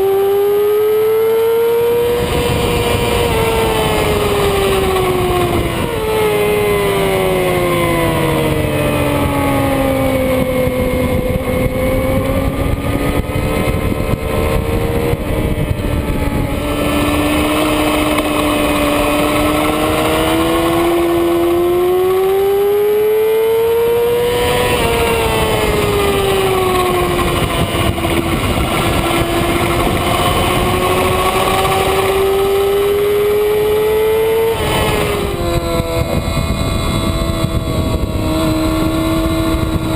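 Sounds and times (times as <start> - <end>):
motorcycle engine running hard: 0.0 - 39.9
wind rush on microphone: 1.8 - 39.9.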